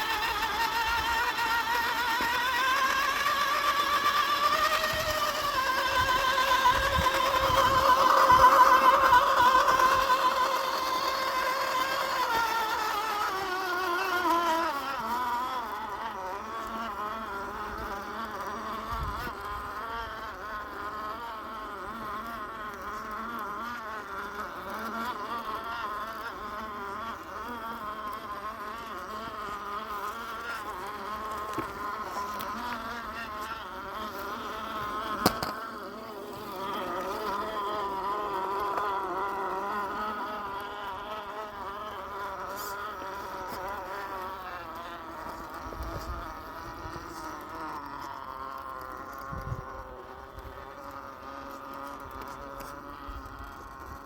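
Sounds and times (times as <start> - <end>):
toy car electric motor whining: 0.0 - 54.0.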